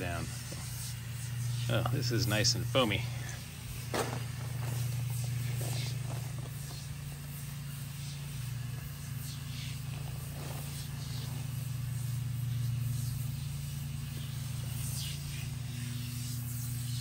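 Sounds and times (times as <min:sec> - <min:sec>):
aerosol spray hissing: 0:00.0 - 0:17.0
low mechanical hum: 0:00.0 - 0:17.0.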